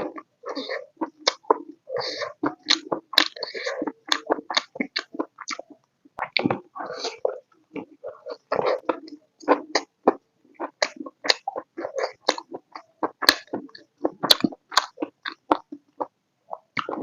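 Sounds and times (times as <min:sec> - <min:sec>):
mouth clicks and smacks: 0:00.0 - 0:17.0
chewing and biting: 0:00.1 - 0:05.6, 0:07.7 - 0:16.1.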